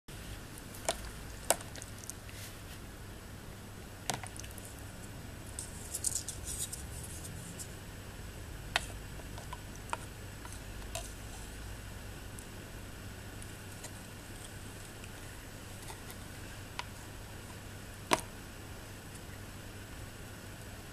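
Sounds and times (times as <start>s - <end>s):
low steady hum: 0.1s - 20.9s.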